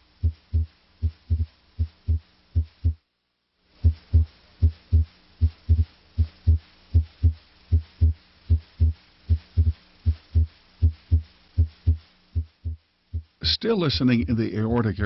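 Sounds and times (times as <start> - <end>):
heartbeat through stethoscope: 0.0 - 3.0, 3.8 - 13.4.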